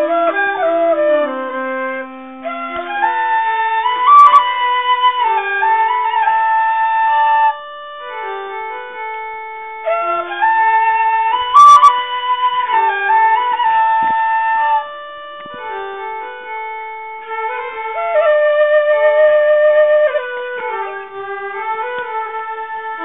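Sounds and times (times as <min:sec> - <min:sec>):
flute melody: 0:00.0 - 0:23.0.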